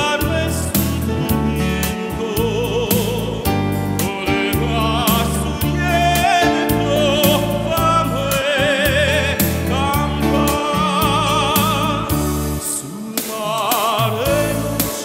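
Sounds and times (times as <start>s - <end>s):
bass line: 0.0s - 12.8s, 14.0s - 15.0s
guitar: 0.0s - 15.0s
keyboard: 0.0s - 15.0s
man singing with vibrato: 0.0s - 15.0s.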